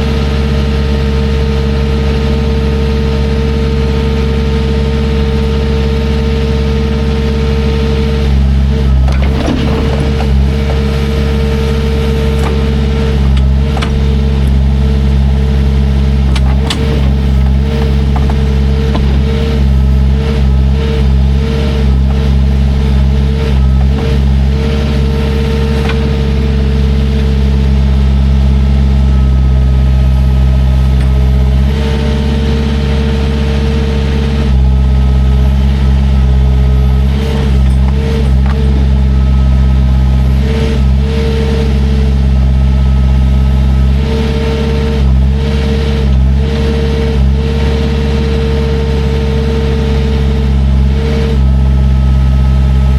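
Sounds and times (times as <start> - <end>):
heavy machine engine running: 0.0 - 52.9.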